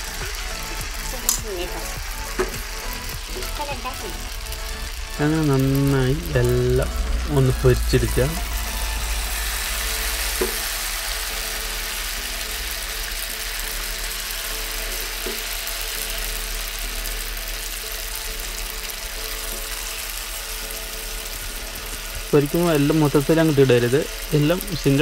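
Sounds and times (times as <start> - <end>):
food deep-frying in oil: 0.0 - 25.0.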